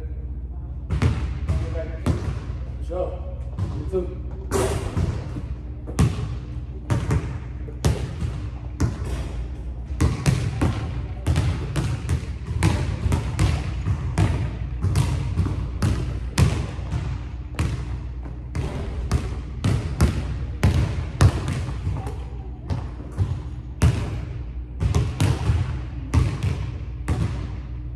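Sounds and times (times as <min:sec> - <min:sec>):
basketball bouncing on gym floor: 0:00.9 - 0:02.6, 0:03.4 - 0:27.8.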